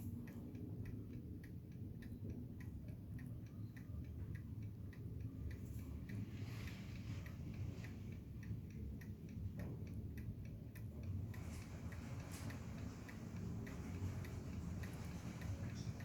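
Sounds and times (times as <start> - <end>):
alarm clock ticking: 0.0 - 16.0.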